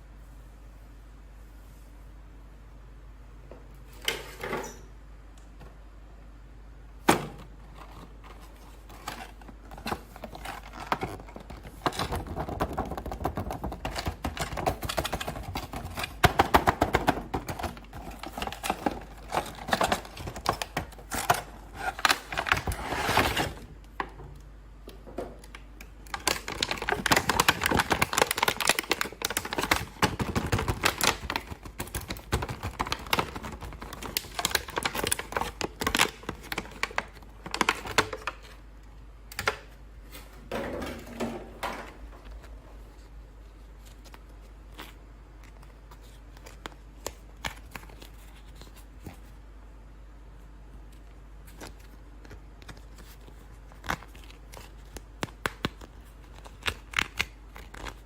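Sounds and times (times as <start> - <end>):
plastic packaging clicking and crackling: 7.2 - 49.3, 50.8 - 58.0.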